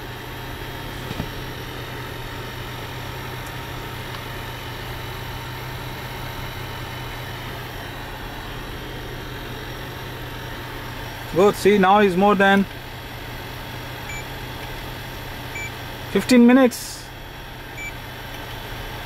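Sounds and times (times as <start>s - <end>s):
car engine idling: 0.0s - 19.0s
portable air conditioner running: 0.0s - 19.0s.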